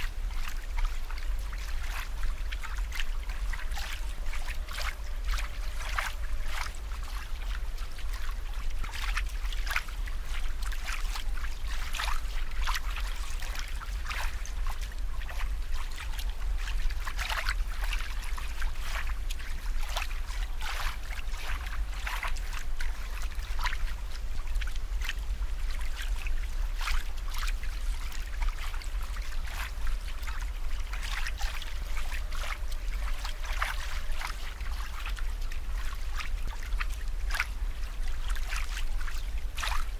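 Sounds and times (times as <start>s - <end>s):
steady low hum: 0.0s - 39.9s
water trickling and bubbling: 0.0s - 39.9s.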